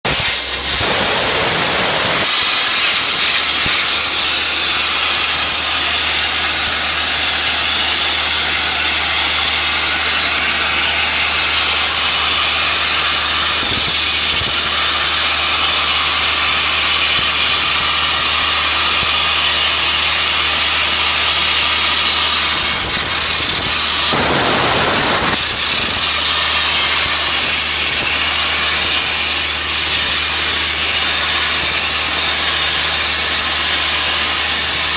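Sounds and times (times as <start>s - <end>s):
sandblasting nozzle hissing: 0.1s - 34.9s.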